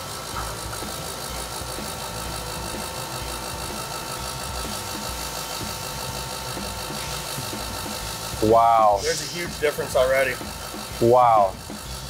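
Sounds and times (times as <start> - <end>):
electric fuel pumps whirring: 0.0 - 12.0
pump burping air: 0.0 - 12.0.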